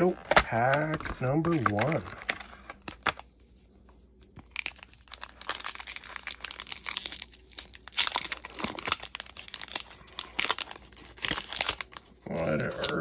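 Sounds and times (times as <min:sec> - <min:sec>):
foil wrapper crinkling and tearing: 0:00.0 - 0:03.3, 0:04.4 - 0:13.0.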